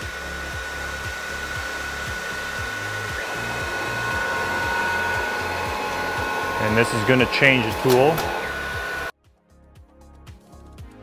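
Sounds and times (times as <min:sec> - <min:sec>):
high whine: 0:00.0 - 0:09.1
vacuum pump whirring: 0:00.0 - 0:09.2.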